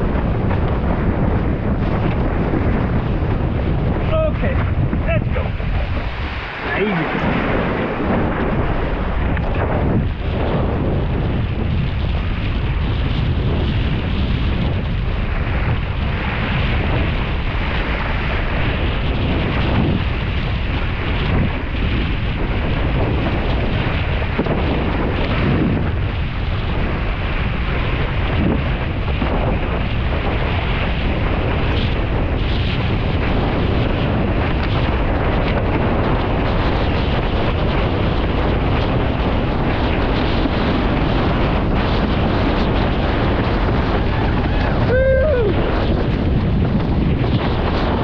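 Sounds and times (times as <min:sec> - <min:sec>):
water rushing against board: 0:00.0 - 0:48.0
wind buffeting microphone: 0:00.0 - 0:48.0.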